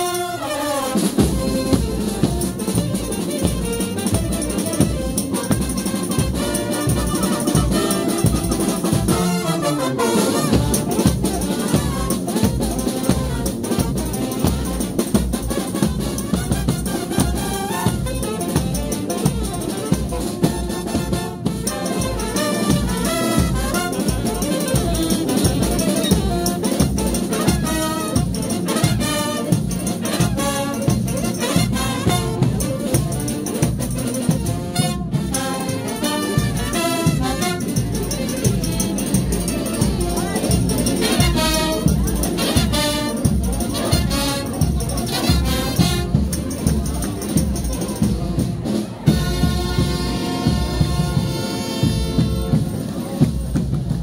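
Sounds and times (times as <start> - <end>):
brass band playing: 0.0 - 54.0
fast drum beat: 1.0 - 35.4, 36.1 - 54.0.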